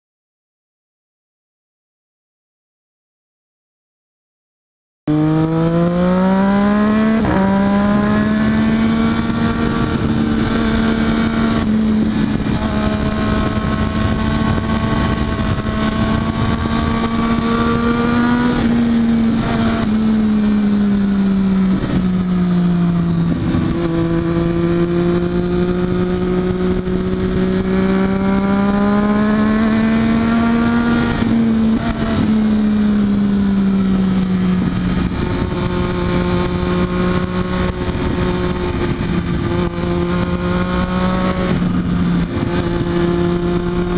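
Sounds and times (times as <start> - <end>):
motorcycle engine revving: 5.1 - 43.9.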